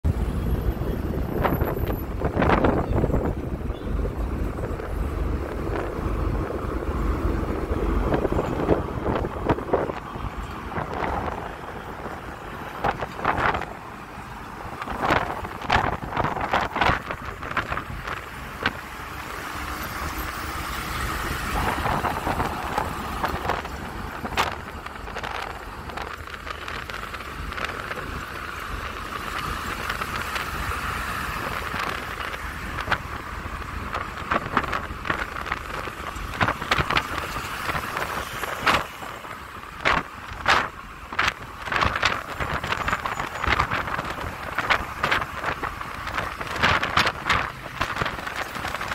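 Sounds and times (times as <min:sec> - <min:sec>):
tyre and engine rumble: 0:00.0 - 0:48.9
cars passing close by: 0:00.1 - 0:48.9.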